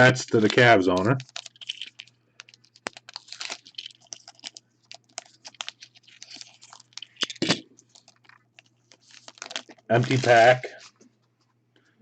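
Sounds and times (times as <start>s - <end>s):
plastic wrappers crinkling: 0.0s - 11.6s.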